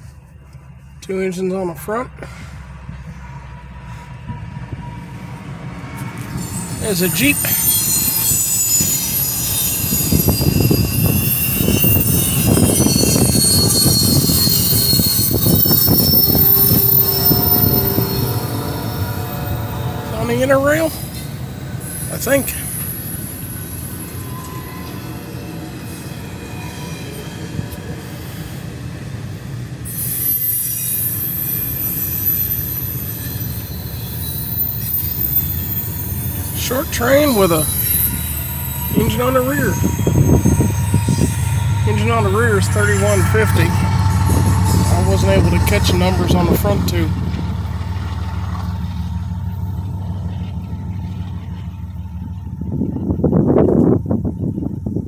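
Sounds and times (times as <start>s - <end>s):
train wheels rumbling on rails: 0.0s - 55.0s
high-pitched wheel squeal: 2.8s - 54.6s.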